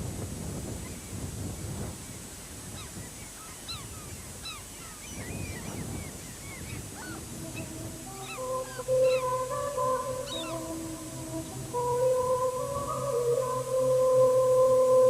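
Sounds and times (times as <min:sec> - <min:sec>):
flock of birds chirping: 0:00.7 - 0:13.8.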